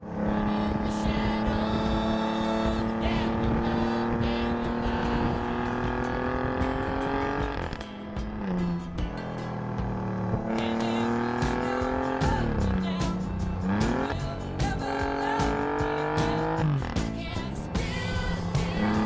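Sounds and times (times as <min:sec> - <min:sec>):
car engine accelerating: 0:00.0 - 0:19.0
exhaust crackles: 0:00.0 - 0:19.0.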